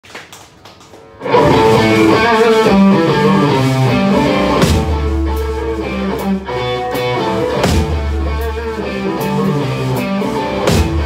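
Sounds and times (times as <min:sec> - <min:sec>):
live rock band playing: 0:01.0 - 0:11.0.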